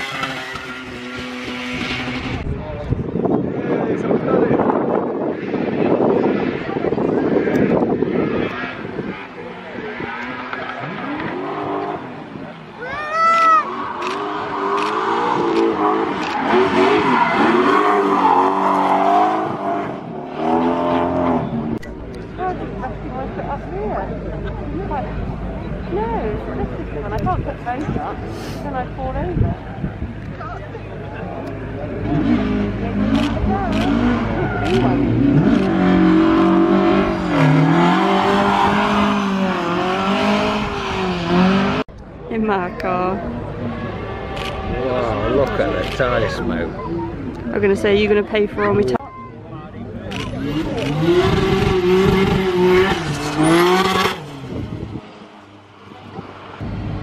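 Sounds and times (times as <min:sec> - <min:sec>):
car engine revving: 0:00.0 - 0:02.8, 0:05.2 - 0:12.7, 0:13.6 - 0:29.3, 0:30.7 - 0:41.9, 0:43.1 - 0:49.0, 0:50.0 - 0:57.0.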